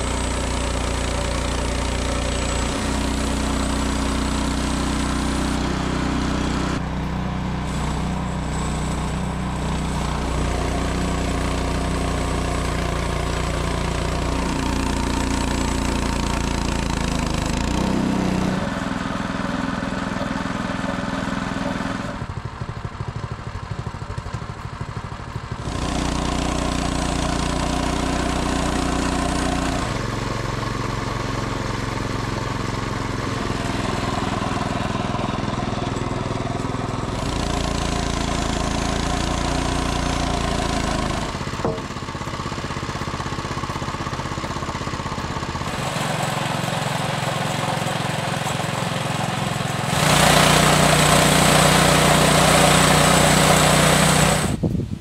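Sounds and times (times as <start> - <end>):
bandsaw mill gas engine running: 0.0 - 54.8.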